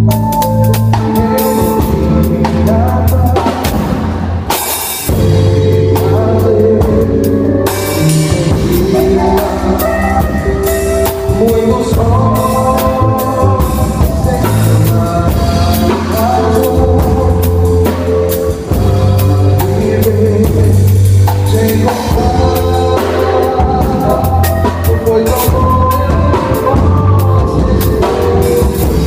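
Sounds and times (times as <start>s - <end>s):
bass: 0.0s - 29.0s
drum kit: 0.0s - 29.0s
live band playing: 0.0s - 29.0s
person singing: 0.0s - 29.0s.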